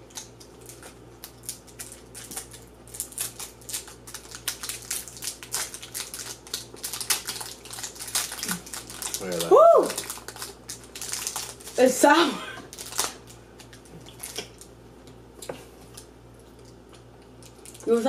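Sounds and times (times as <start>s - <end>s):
candy wrappers crinkling: 0.0s - 12.0s, 12.7s - 14.8s, 17.3s - 18.0s
low steady hum: 0.0s - 18.0s.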